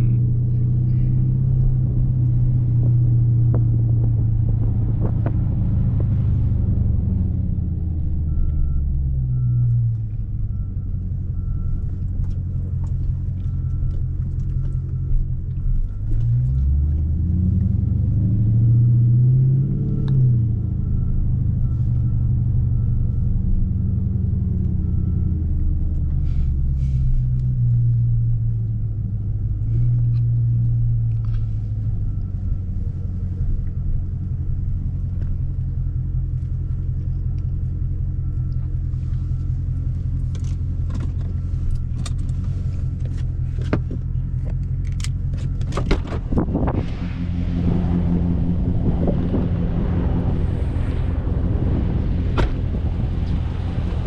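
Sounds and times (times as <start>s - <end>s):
car engine with loud exhaust: 0.0s - 54.0s.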